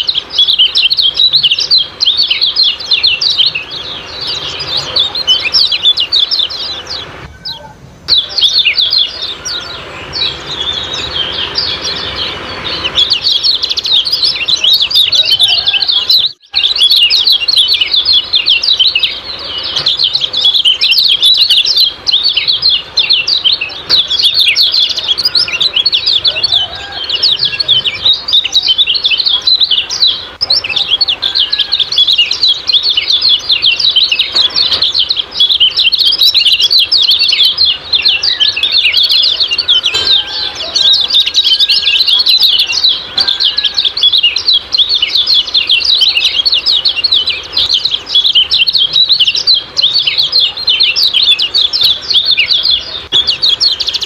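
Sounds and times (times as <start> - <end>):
bird rapid high chirping: 0.0 - 54.0.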